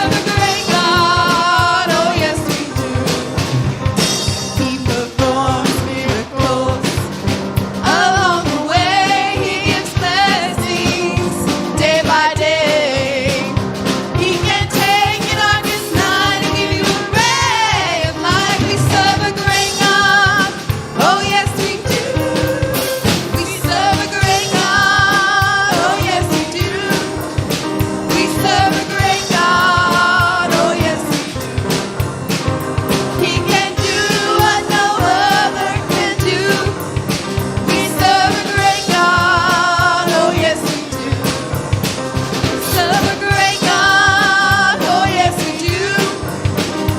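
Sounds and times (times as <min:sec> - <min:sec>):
woman singing with vibrato: 0:00.0 - 0:03.4, 0:04.6 - 0:07.1, 0:07.8 - 0:13.6, 0:14.2 - 0:27.2, 0:28.1 - 0:31.5, 0:33.2 - 0:36.8, 0:37.7 - 0:41.4, 0:42.6 - 0:46.3
band playing chords: 0:00.0 - 0:46.9.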